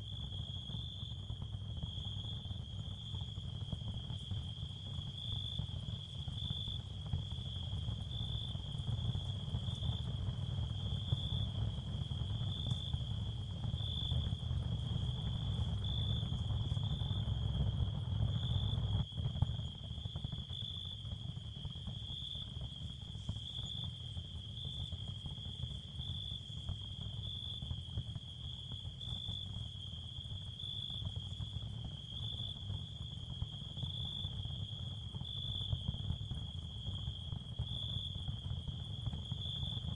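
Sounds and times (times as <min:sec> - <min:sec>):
cricket trill: 0:00.0 - 0:39.9.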